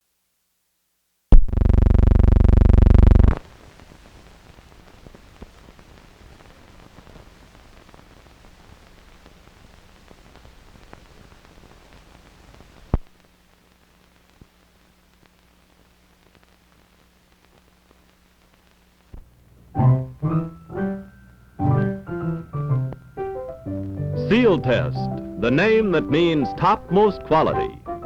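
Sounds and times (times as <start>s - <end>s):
old film soundtrack hiss and crackle: 0.0s - 28.0s.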